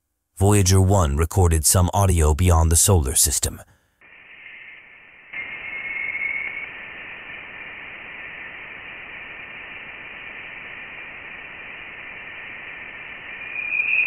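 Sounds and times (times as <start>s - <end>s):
steady hiss: 1.8s - 14.0s.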